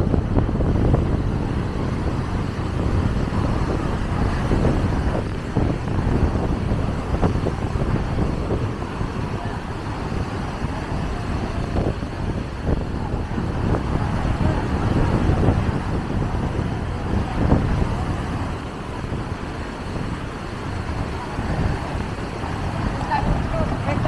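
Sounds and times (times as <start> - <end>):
surf breaking on beach: 0.0 - 24.0
wind on microphone: 0.0 - 24.0.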